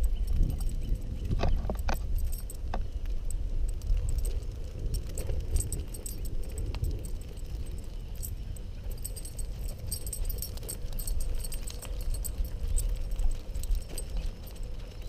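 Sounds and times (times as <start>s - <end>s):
metallic jingling and rattling: 0.0s - 15.0s
wind and road noise: 0.0s - 15.0s.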